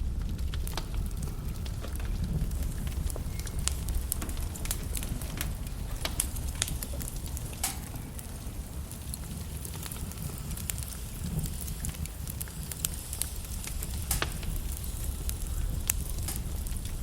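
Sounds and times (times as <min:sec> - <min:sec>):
low rumble of flame: 0:00.0 - 0:17.0
wood logs crackling and popping: 0:00.0 - 0:17.0.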